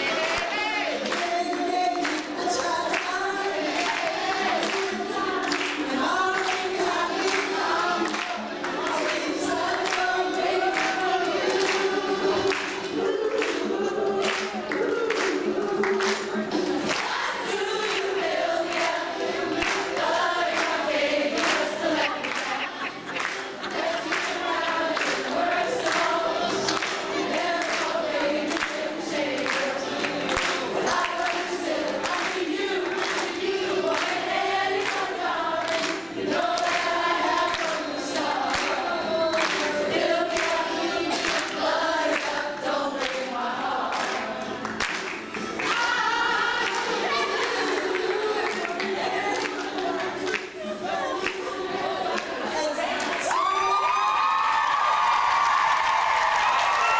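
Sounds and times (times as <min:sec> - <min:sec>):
women singing together: 0:00.0 - 0:54.0
audience clapping along: 0:00.0 - 0:56.9.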